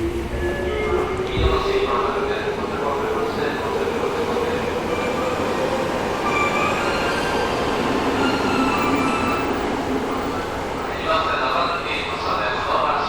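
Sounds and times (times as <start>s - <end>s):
subway train running rumble: 0.0s - 13.0s.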